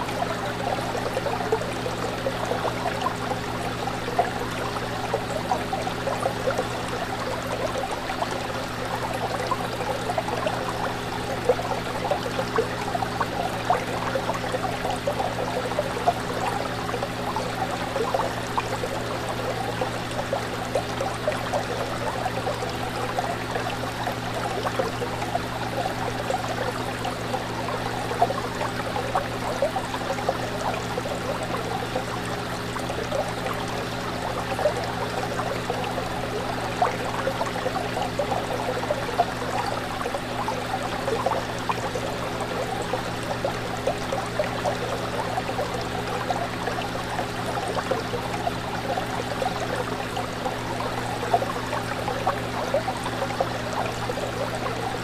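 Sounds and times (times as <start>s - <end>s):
fish tank water trickling: 0.0s - 55.0s.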